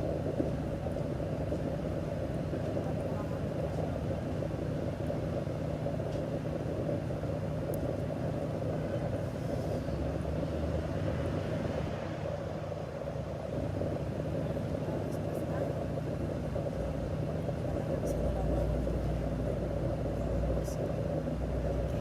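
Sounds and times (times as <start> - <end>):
street background noise: 0.0 - 22.0
vehicle engine rumbling: 0.0 - 22.0.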